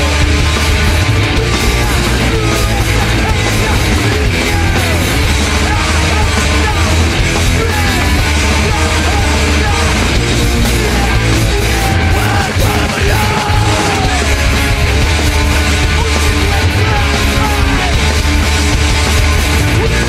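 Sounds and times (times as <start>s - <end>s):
distorted noise music: 0.0s - 20.0s.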